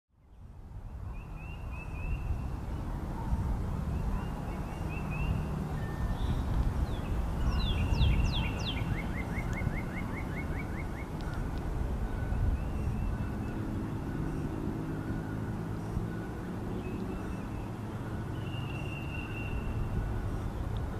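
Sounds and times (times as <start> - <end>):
small birds chirping and trilling: 0.2 - 20.9
steady low rumble: 0.2 - 20.9.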